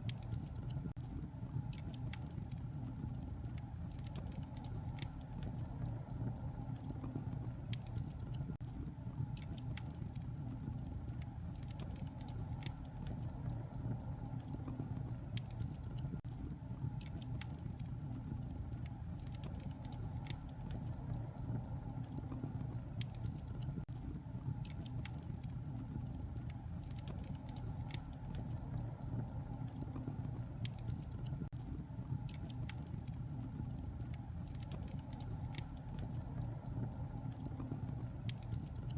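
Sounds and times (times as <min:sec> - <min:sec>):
fire crackles and pops: 0:00.0 - 0:38.9
low rumble of flames: 0:00.0 - 0:38.9.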